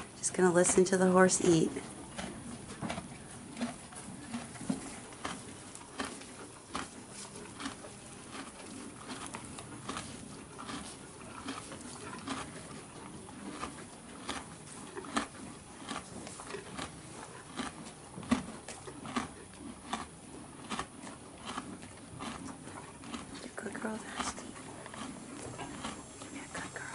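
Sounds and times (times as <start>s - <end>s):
horse crunching food: 0.0s - 26.9s.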